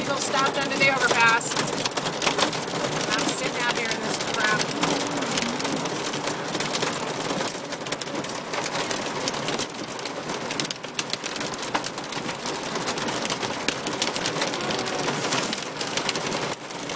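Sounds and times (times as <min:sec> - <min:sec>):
rain on car roof: 0:00.0 - 0:16.9.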